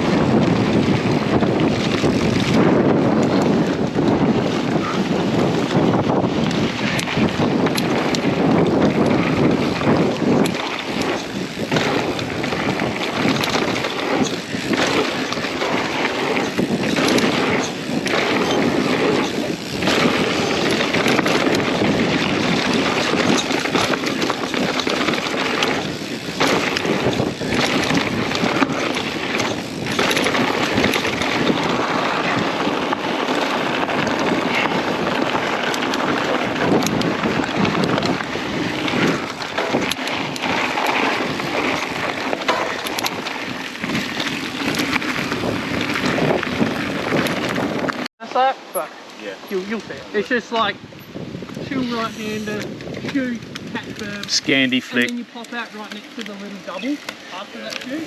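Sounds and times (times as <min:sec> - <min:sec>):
tyre and trail noise: 0:00.0 - 0:58.0
wind buffeting microphone: 0:00.0 - 0:58.0.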